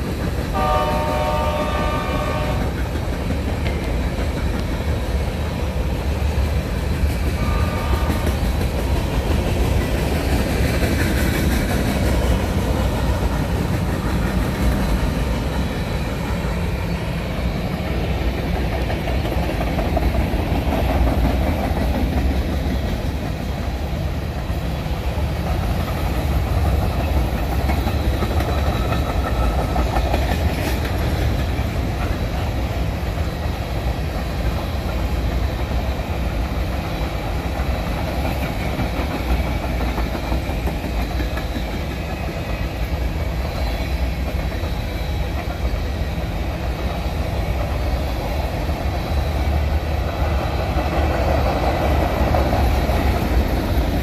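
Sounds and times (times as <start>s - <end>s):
freight train wheels rumbling: 0.0s - 54.0s
train cars clickety-clack: 0.0s - 54.0s.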